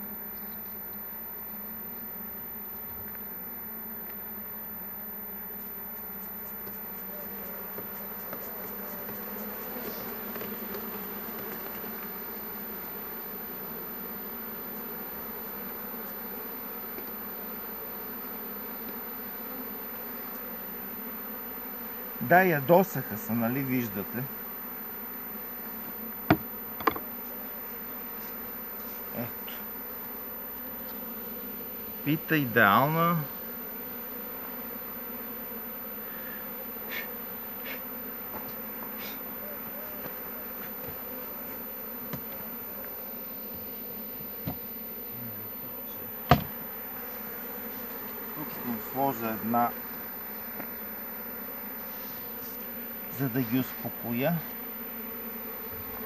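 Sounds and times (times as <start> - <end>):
bees buzzing: 0.0 - 56.0.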